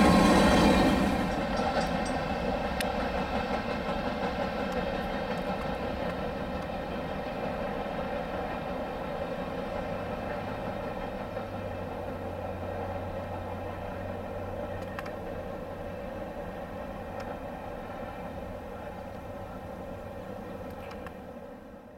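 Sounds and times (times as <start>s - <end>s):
freight train rumbling past: 0.0s - 21.9s.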